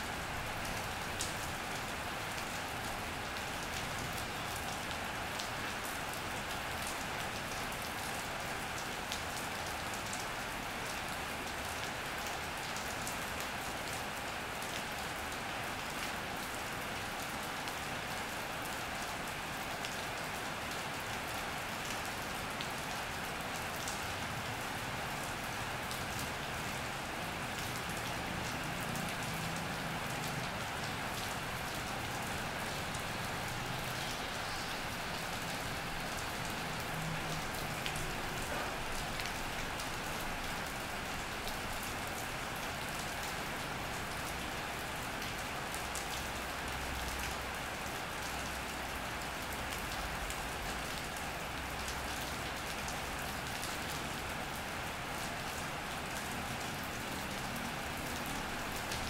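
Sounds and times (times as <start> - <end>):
rain drumming on a metal roof: 0.0 - 59.0.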